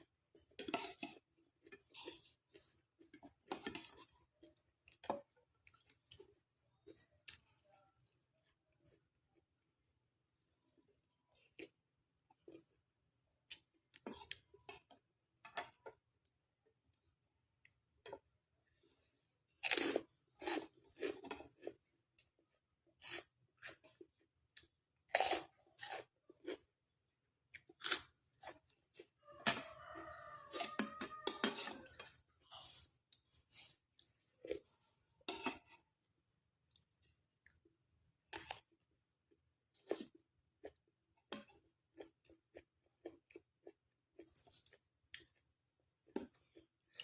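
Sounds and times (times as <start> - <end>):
chewing and crunching food: 0.0 - 9.7, 10.4 - 47.0.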